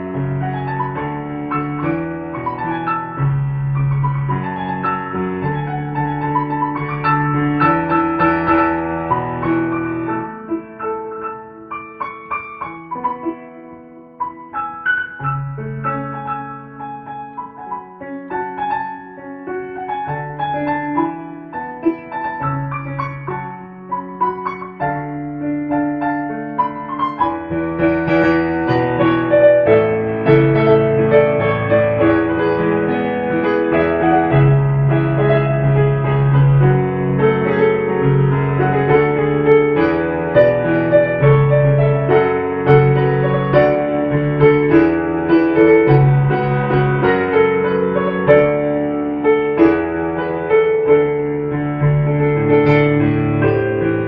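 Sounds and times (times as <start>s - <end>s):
piano melody: 0.0s - 54.0s.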